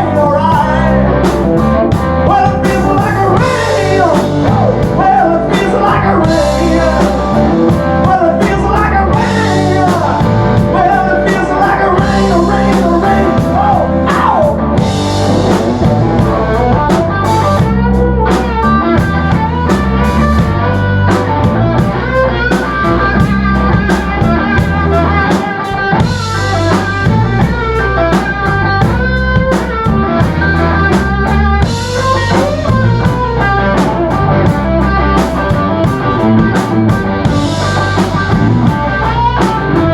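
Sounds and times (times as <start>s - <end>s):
blues-rock band playing: 0.0s - 39.9s
electric guitar bent notes: 0.0s - 39.9s.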